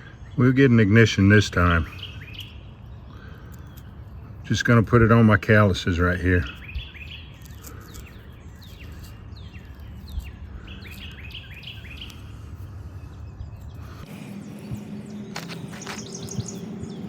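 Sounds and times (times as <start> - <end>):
songbirds chirping: 0.0 - 17.0
steady low hum: 1.1 - 17.0
steady low rumble: 2.2 - 17.0.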